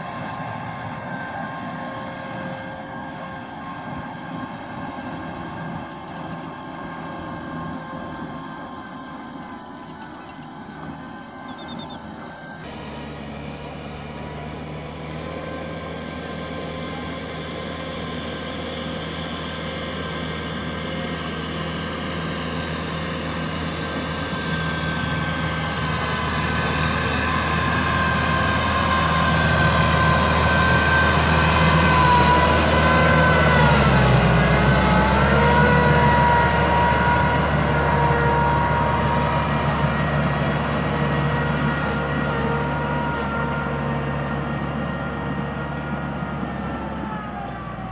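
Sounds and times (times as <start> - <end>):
tractor engine under load: 0.0 - 47.9.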